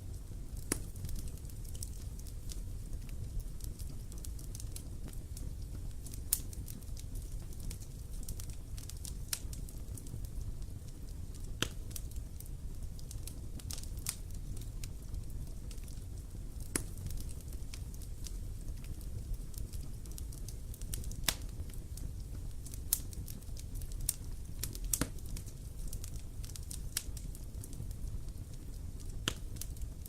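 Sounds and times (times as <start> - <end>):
bonfire crackling and popping: 0.0 - 30.0
low fire rumble: 0.0 - 30.0.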